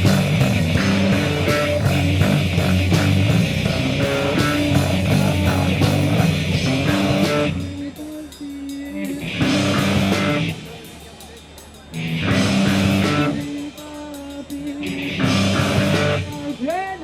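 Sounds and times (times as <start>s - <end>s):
rock band playing instrumental: 0.0s - 17.0s.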